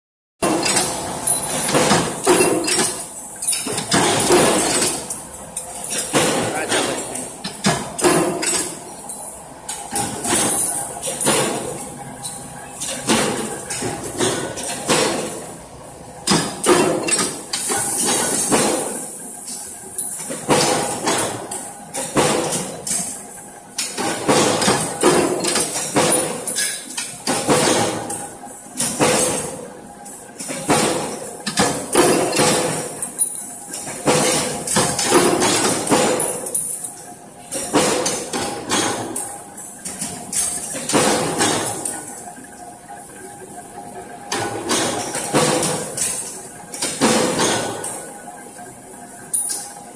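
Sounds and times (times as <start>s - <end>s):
punch press metallic clanks: 0.4s - 15.5s, 16.2s - 23.2s, 23.8s - 28.2s, 28.8s - 29.6s, 30.4s - 42.2s, 44.3s - 48.1s.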